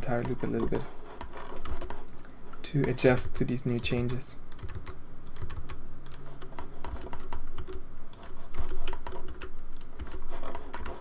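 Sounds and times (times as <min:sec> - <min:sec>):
keyboard keys clicking: 0:00.1 - 0:11.0.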